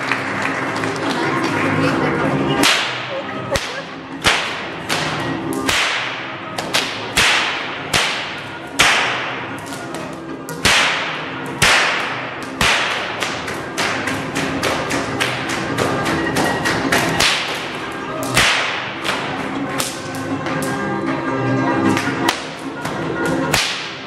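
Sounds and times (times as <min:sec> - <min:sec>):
whip cracks echoing: 0:02.6 - 0:20.8, 0:22.0 - 0:24.0.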